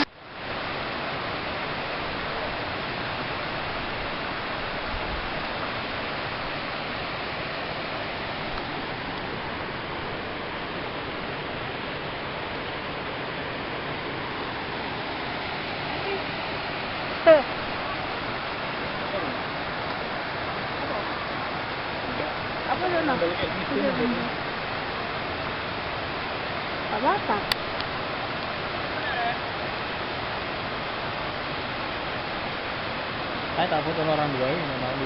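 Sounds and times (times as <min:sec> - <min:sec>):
waterfall rushing over rocks: 0:00.0 - 0:35.0.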